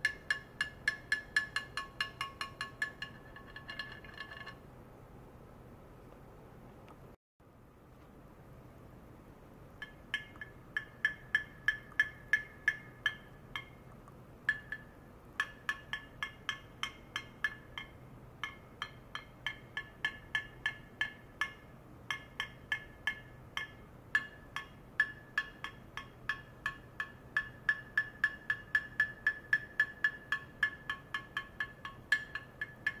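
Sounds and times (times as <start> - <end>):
rod tapping glass vessel: 0.0 - 4.6, 9.8 - 13.8, 14.5 - 33.0.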